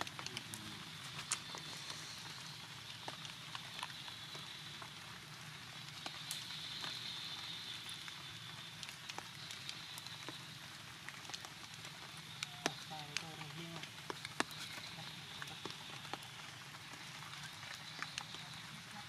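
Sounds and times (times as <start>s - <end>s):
sharp drips and ticks: 0.0s - 19.0s
steady rain hiss: 0.0s - 19.0s.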